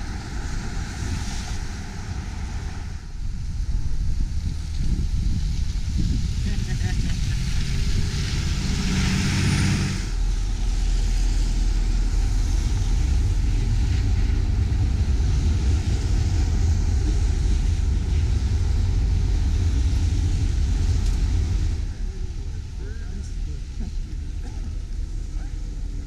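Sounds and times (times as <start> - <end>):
bus pulling away: 0.0 - 26.0
freight train rumbling: 0.0 - 26.0
road traffic hissing past: 0.0 - 26.0.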